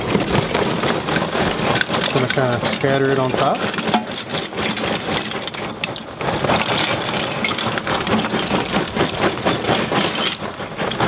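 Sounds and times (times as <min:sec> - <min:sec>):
charcoal clattering into grill: 0:00.0 - 0:11.0.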